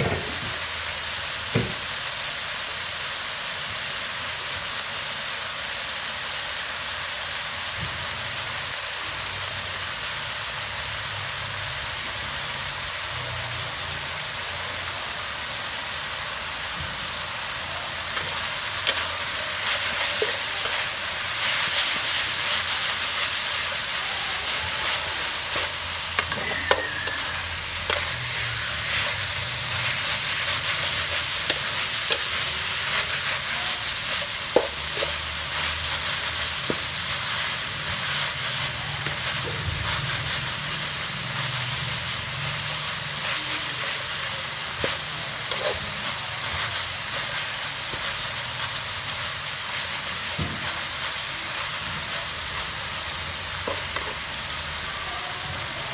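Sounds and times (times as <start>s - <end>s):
food sizzling in a wok: 0.0s - 55.9s.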